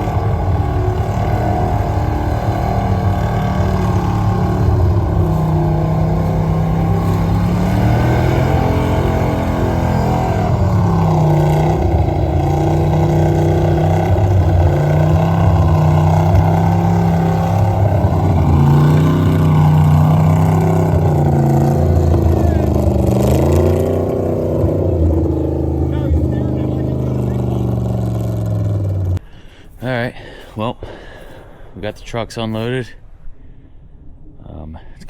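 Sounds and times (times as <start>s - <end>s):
truck engine revving: 0.0s - 29.2s.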